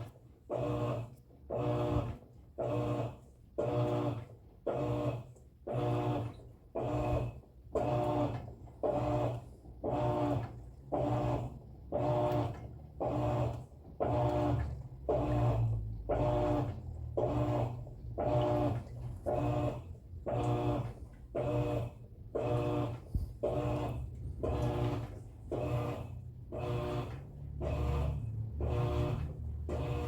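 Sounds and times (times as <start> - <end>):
washing machine agitating: 0.0 - 30.0.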